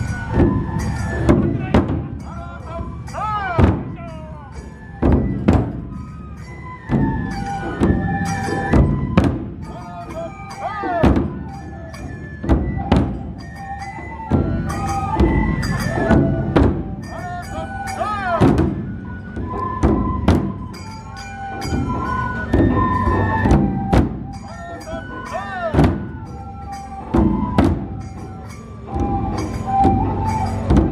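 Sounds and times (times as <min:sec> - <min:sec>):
flute melody: 0:00.0 - 0:30.9
light percussion strokes: 0:00.0 - 0:30.9.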